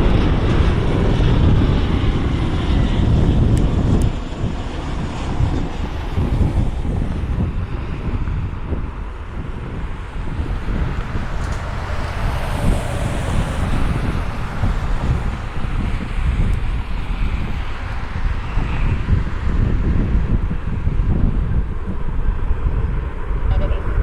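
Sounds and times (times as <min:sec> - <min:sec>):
distant jet aircraft rumble: 0:00.0 - 0:24.0
wind buffeting microphone: 0:00.0 - 0:24.0.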